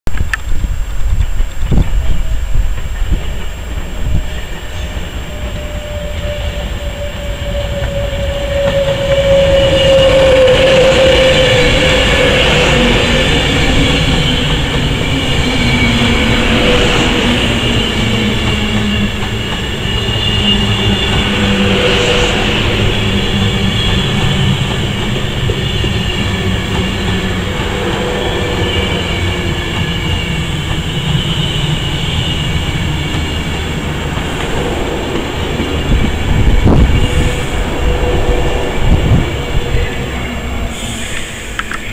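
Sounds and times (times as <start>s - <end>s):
train wheels rumbling on rails: 0.1s - 41.9s.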